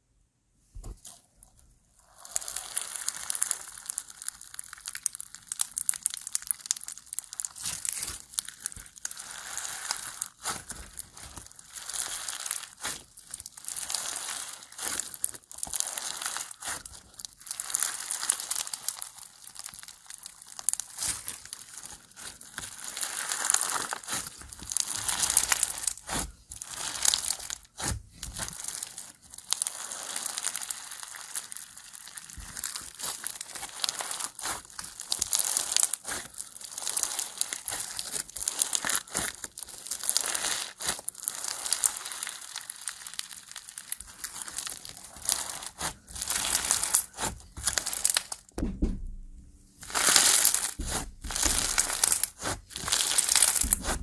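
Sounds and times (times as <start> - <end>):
foam bead slime crackling: 2.0 - 48.6, 49.7 - 54.0.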